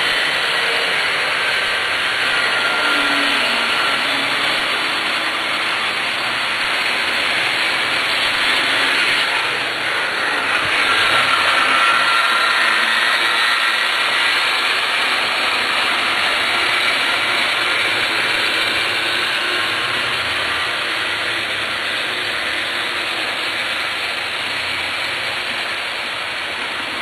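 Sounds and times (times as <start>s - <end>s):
model trains whirring on track: 0.0s - 27.0s.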